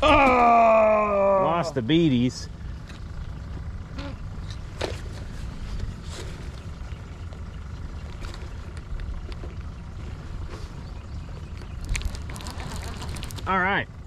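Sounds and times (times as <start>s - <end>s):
boat motor rumbling: 0.0s - 14.0s
faint motor whine: 0.0s - 14.0s.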